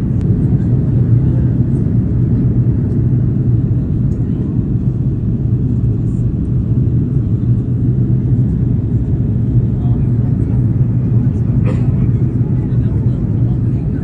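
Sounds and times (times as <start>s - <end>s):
aircraft engine drone in cabin: 0.0s - 14.0s.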